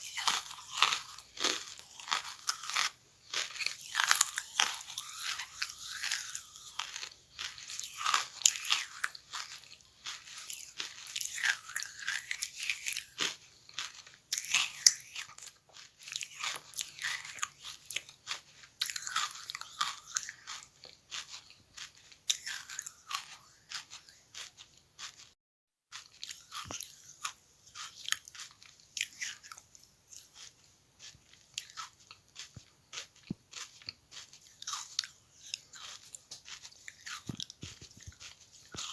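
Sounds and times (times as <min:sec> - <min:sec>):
crunching and chewing charcoal: 0:00.0 - 0:38.9.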